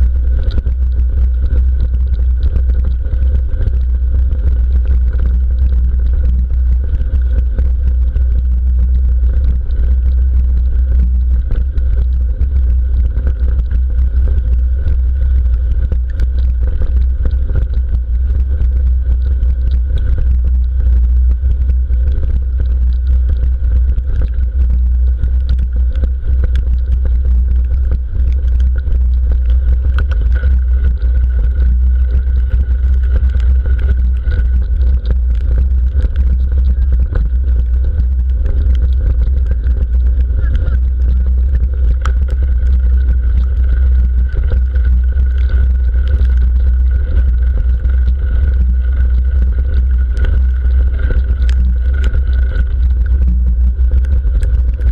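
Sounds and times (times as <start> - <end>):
bike tyres rumbling: 0.0 - 54.9.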